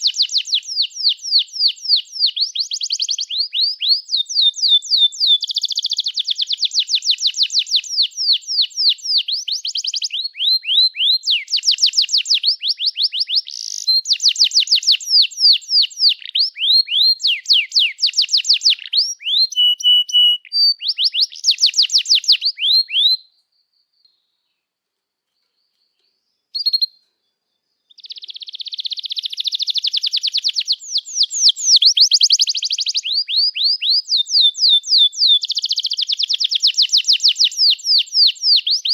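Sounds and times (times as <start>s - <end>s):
canary singing trills: 0.0s - 24.5s, 25.3s - 38.9s.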